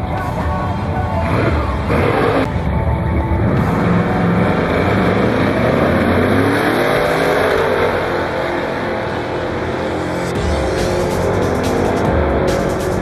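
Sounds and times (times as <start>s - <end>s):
drag cars accelerating hard: 1.2s - 13.0s.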